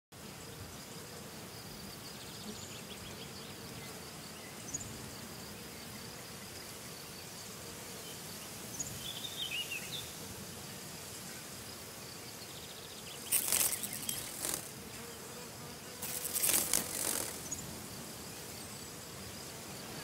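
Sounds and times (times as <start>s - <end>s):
insects buzzing: 0.2s - 20.0s.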